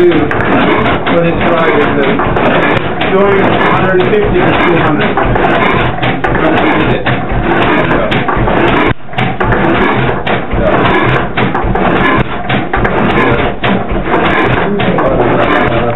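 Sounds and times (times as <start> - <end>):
stationary engine clattering: 0.0 - 15.9.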